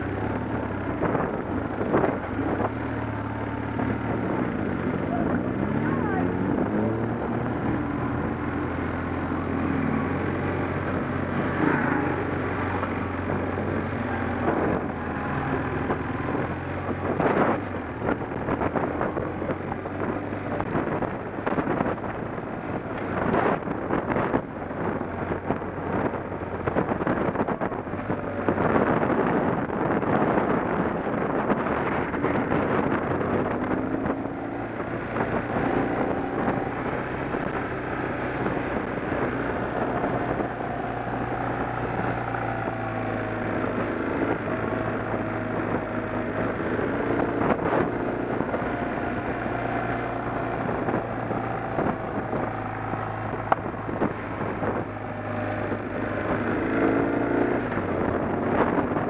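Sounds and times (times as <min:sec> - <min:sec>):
engine running: 0:00.0 - 0:59.0
wind noise on microphone: 0:00.0 - 0:59.0.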